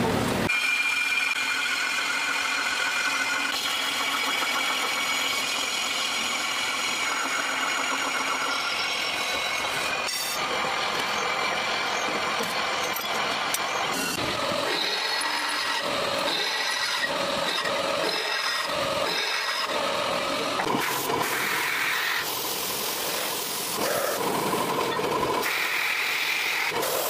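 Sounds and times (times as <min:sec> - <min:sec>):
metal lathe cutting: 0:00.5 - 0:27.0.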